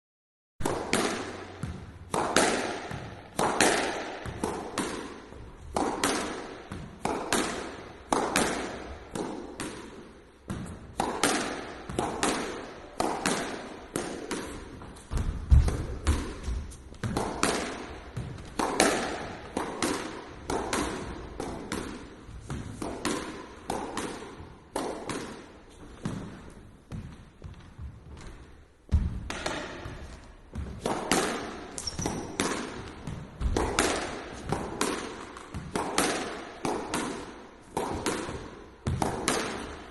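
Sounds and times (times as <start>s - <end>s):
squash ball smacks: 0.6s - 39.9s.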